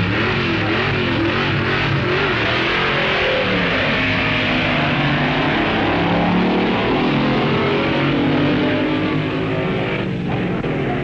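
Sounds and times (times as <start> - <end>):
dragster engine at full throttle: 0.0 - 11.0.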